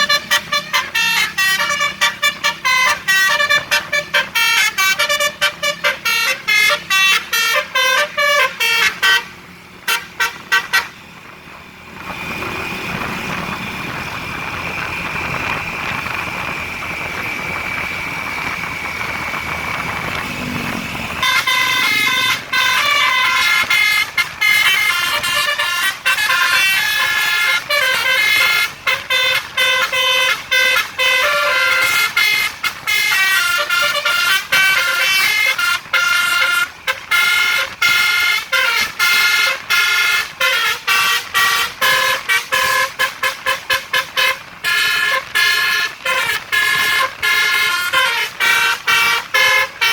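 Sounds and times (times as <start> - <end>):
multi-tone musical bus horn: 0.0 - 49.9
steady noise: 0.0 - 49.9.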